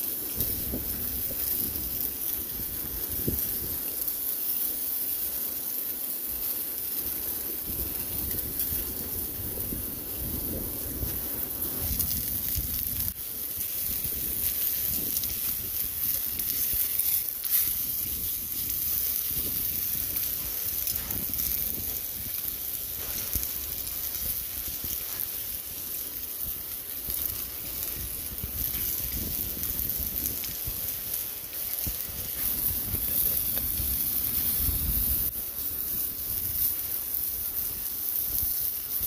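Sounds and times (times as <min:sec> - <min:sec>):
meat sizzling in a pan: 0:00.0 - 0:39.0.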